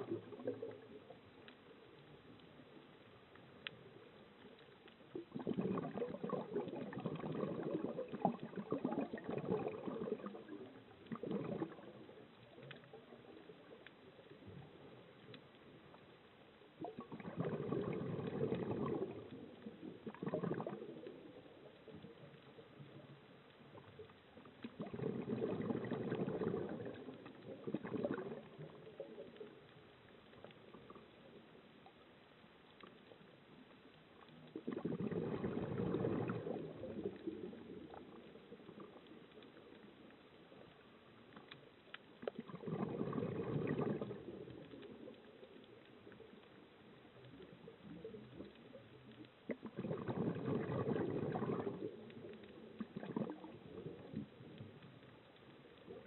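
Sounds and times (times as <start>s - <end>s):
underwater air bubbles gurgling: 0.0s - 32.0s, 32.8s - 56.0s
faint hiss: 0.0s - 56.0s.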